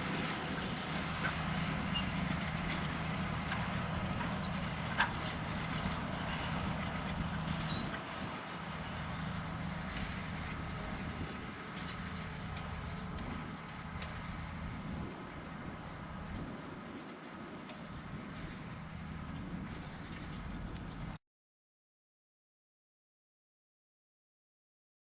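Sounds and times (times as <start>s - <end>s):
tractor diesel engine running: 0.0s - 21.2s.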